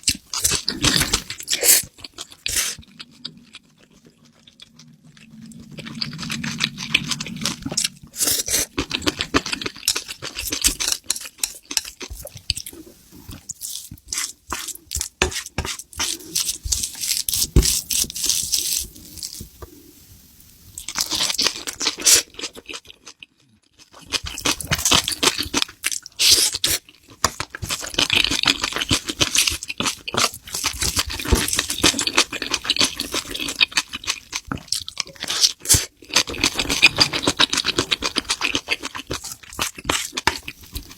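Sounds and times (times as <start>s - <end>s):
crunching and chewing food: 0.0s - 19.8s, 20.8s - 40.9s.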